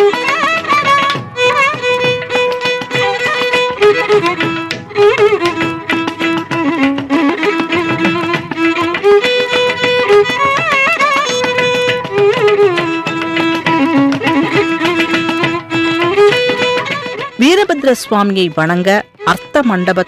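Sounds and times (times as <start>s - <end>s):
percussion strokes: 0.0s - 20.0s
violin sliding between notes: 0.0s - 20.0s.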